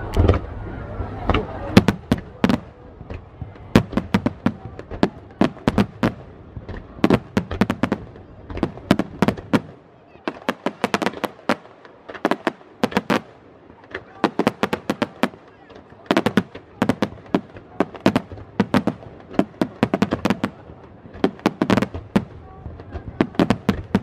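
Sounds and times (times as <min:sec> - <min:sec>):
fireworks cracking and popping: 0:01.3 - 0:24.0.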